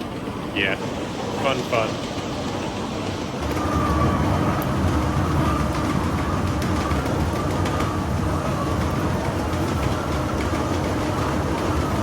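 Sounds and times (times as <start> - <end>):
conveyor belts rumbling: 0.0 - 12.0.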